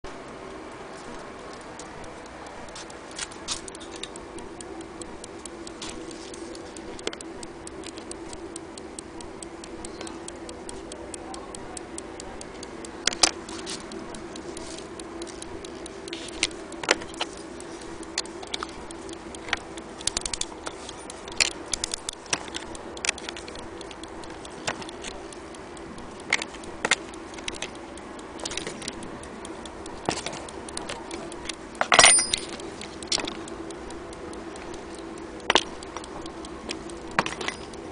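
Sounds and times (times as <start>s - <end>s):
steady low hum: 0.0s - 37.9s
mantle clock ticking: 0.1s - 37.9s
loud clicks: 1.1s - 37.9s.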